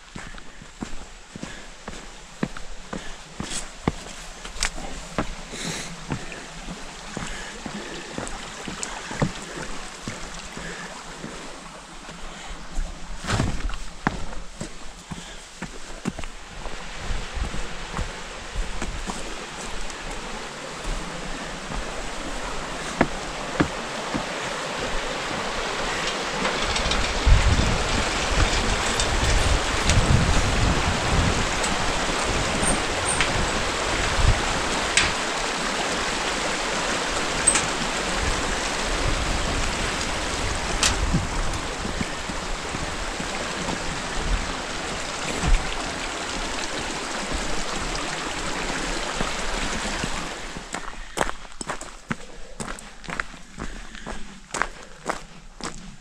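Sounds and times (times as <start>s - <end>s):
footsteps on metal mesh bridge: 0.0s - 35.4s, 37.1s - 47.9s, 50.0s - 56.0s
river rushing over rocks: 0.0s - 50.9s.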